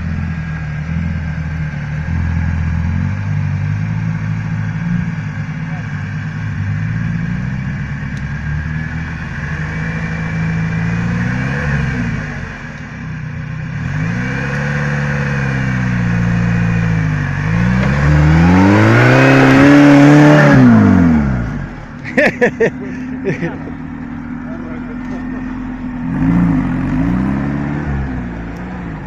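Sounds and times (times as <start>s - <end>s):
buggy engine revving: 0.0s - 29.0s.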